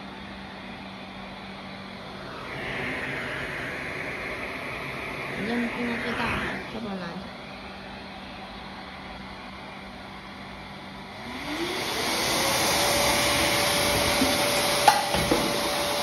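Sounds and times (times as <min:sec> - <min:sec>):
pet blower whirring: 0:00.0 - 0:16.0.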